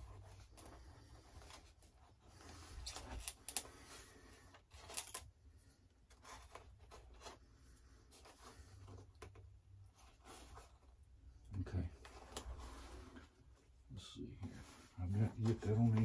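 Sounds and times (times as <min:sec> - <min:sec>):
light clicks and scrapes: 0:00.0 - 0:13.4.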